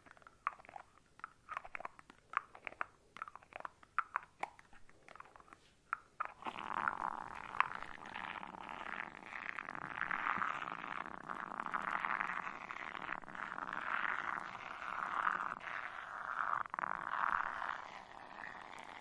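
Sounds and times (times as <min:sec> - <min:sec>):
shaving foam squishing: 0:00.0 - 0:19.0.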